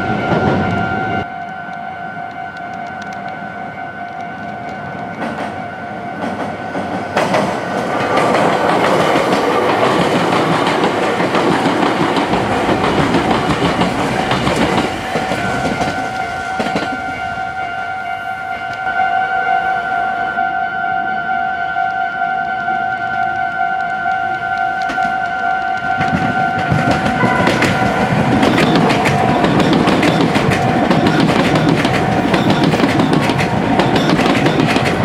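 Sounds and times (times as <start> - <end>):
train passing with wheel clatter: 0.0 - 20.6, 21.6 - 35.0
level crossing warning bell: 0.0 - 35.0.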